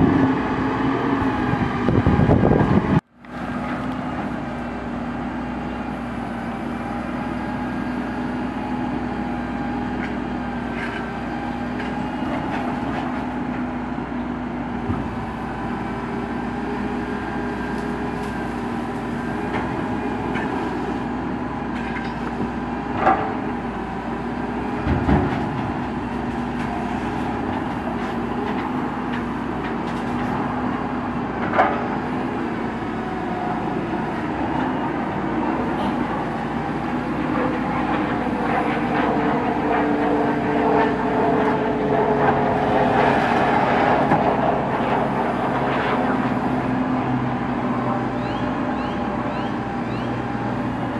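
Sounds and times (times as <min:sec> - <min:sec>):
truck engine and hydraulic hum: 0:00.0 - 0:50.9.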